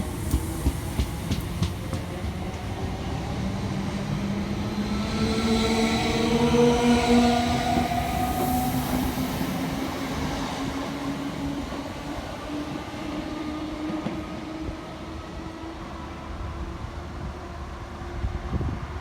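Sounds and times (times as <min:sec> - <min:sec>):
train passing with humming rumble: 0:00.0 - 0:19.0.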